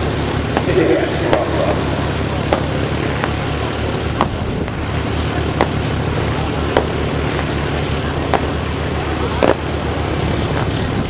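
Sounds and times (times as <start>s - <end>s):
aircraft engine drone: 0.0s - 11.0s
wind noise: 0.9s - 6.3s, 6.9s - 11.0s.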